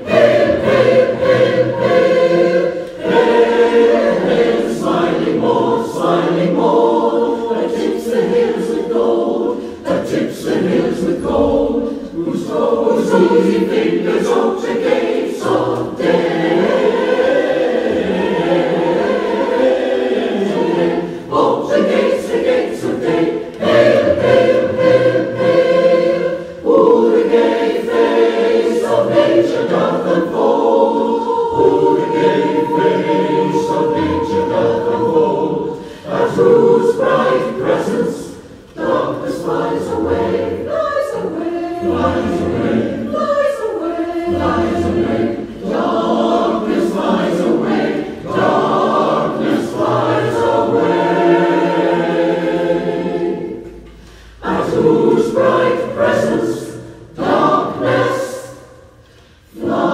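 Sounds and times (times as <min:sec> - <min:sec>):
choir singing in parts: 0:00.0 - 0:59.9.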